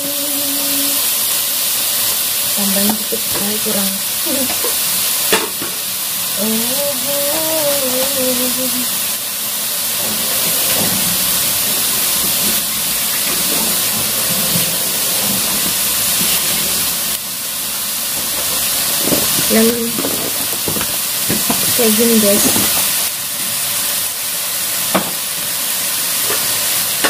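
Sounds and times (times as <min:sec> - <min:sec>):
chicken sizzling in a wok: 0:00.0 - 0:27.0.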